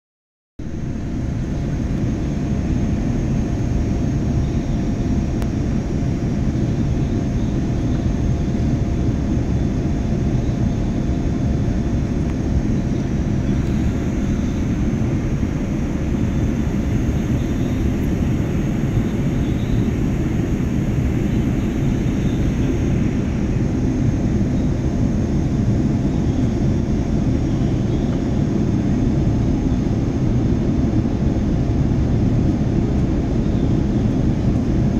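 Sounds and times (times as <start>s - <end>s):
airliner engines rumbling: 0.6s - 34.9s
faint steady hum: 0.6s - 34.9s.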